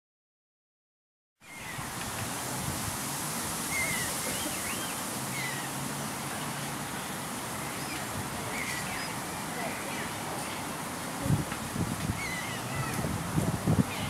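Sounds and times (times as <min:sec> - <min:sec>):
outdoor background hiss: 0:01.4 - 0:14.0.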